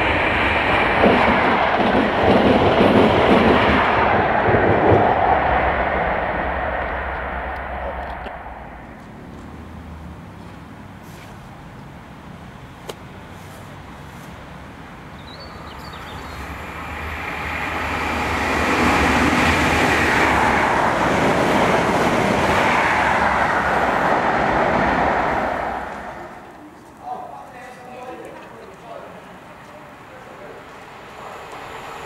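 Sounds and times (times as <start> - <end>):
train running noise: 0.0 - 32.0.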